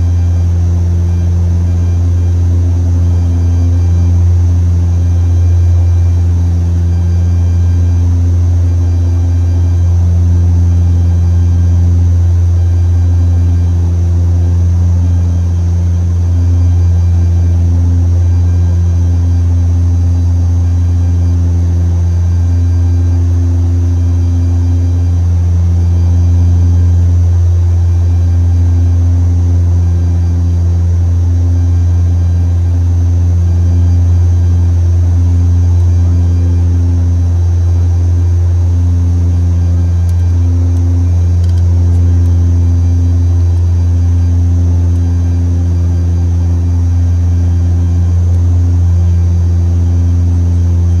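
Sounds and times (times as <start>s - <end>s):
faint high whine: 0.0s - 51.0s
turboprop engines droning: 0.0s - 51.0s.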